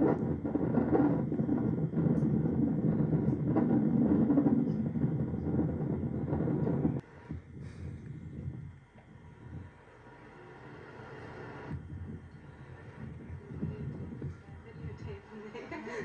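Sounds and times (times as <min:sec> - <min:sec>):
loud low rumbling noise: 0:00.0 - 0:16.0.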